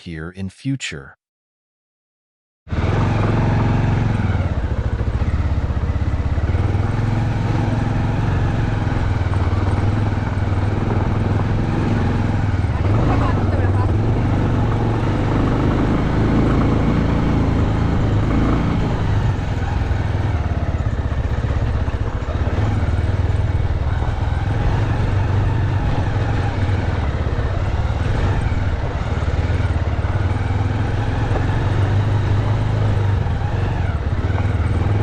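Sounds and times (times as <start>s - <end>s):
motorcycle engine running: 2.7s - 35.0s
road and wind noise: 2.7s - 35.0s.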